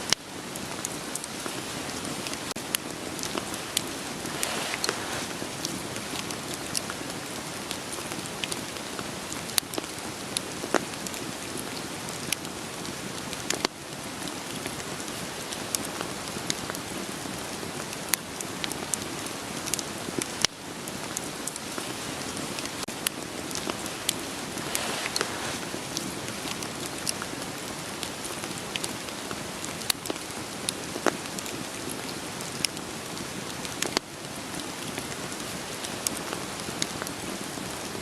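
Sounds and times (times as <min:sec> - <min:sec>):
rain hiss: 0:00.0 - 0:38.0
wood fire crackling and popping: 0:00.1 - 0:38.0.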